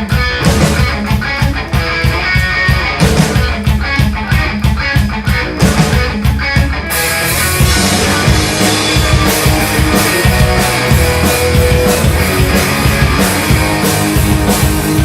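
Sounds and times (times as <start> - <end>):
drums and cymbals: 0.0 - 15.0
rock band playing: 0.0 - 15.0.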